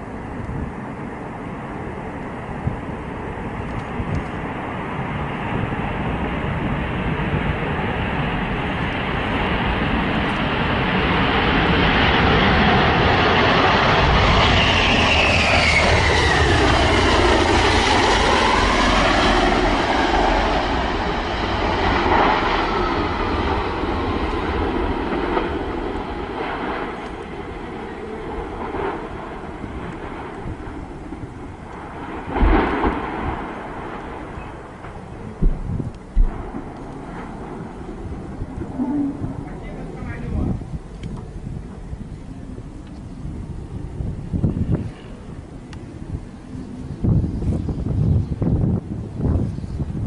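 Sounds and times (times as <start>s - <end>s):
jet aircraft passing: 0.0s - 50.0s.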